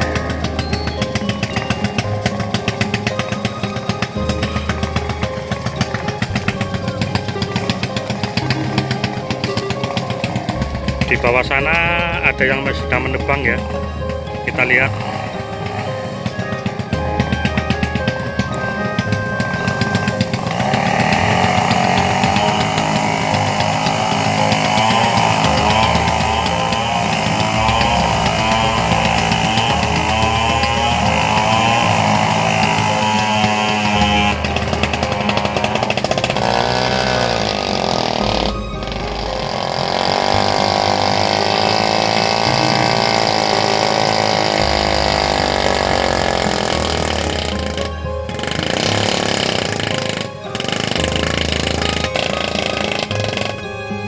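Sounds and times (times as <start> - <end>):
chainsaw cutting wood: 0.0 - 54.0
low engine hum: 0.0 - 54.0.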